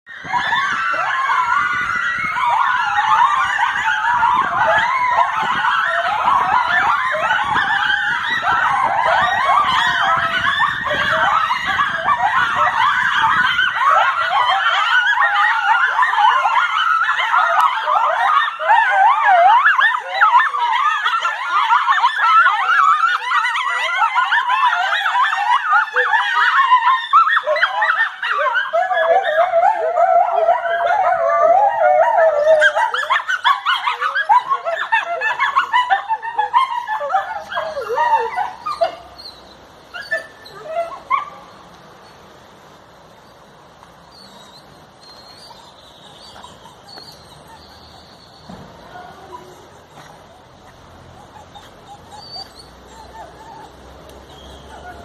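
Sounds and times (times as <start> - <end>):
coyotes howling and yipping: 0.1 - 55.0.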